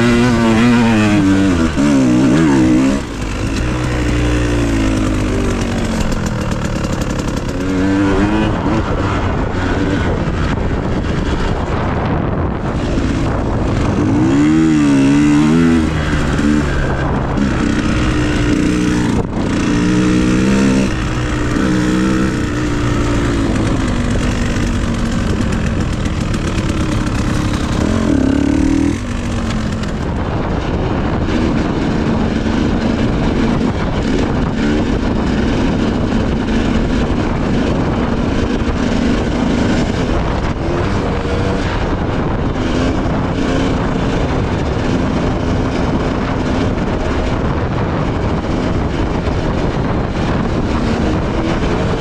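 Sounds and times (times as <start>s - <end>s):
dirt bike engine revving: 0.0s - 12.0s, 12.6s - 52.0s
rushing noise: 0.0s - 52.0s.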